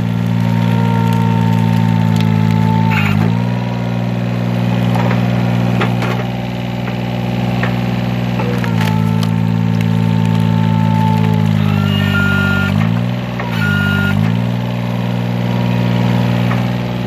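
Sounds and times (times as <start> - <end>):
log cracking and splintering: 0.0 - 17.0
small engine running: 0.0 - 17.0.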